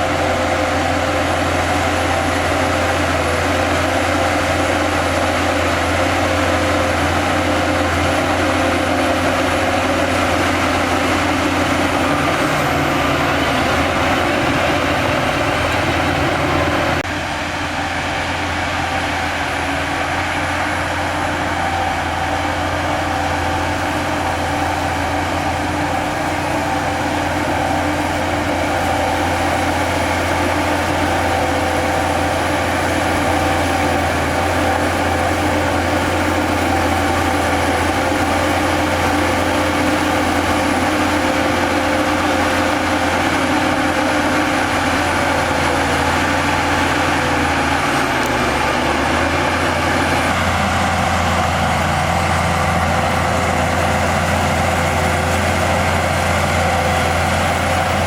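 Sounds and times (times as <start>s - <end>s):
heavy diesel engine humming: 0.0s - 58.0s.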